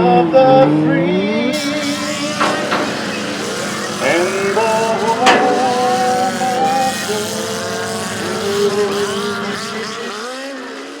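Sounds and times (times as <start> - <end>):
race car engines revving: 0.2 - 11.0.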